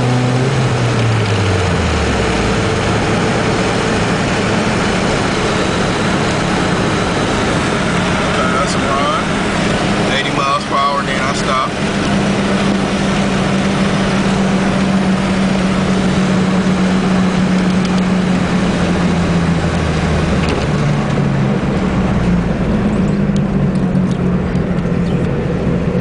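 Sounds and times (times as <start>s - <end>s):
car engine running hard: 0.0s - 26.0s
road noise: 0.0s - 26.0s.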